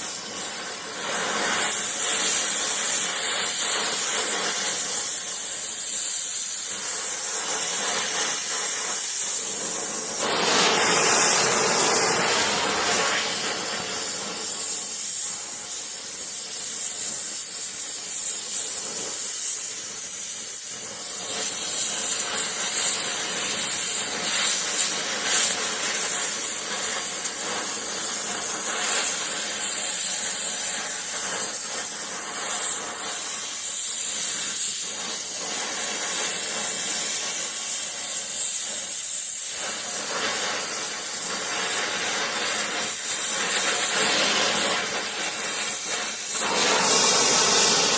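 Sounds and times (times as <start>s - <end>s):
gas torch flame hissing: 0.0s - 47.9s.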